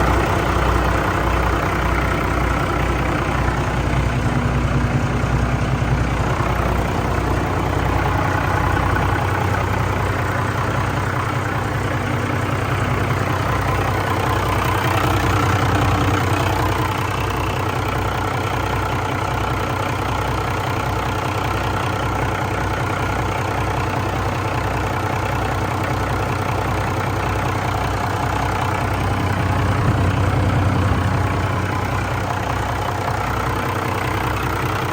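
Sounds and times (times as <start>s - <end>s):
diesel engine running steadily: 0.0s - 34.9s.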